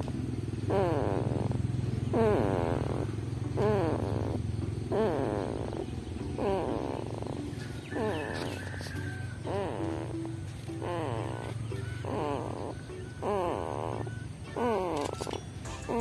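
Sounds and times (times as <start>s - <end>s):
child snoring: 0.0s - 16.0s.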